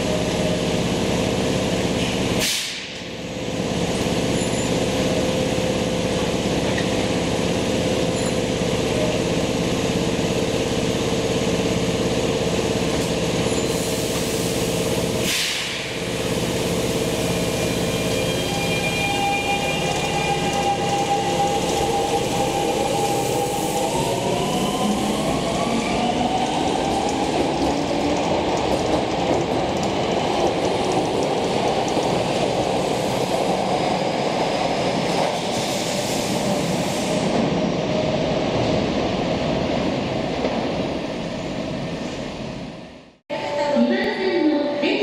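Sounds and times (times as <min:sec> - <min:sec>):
wheels rumbling on rail: 0:00.0 - 0:43.2.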